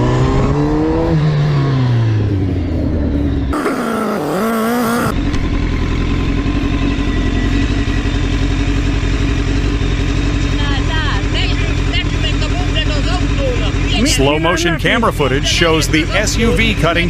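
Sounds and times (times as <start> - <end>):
steady engine drone: 0.0 - 17.0
vehicle engine revving: 0.0 - 17.0.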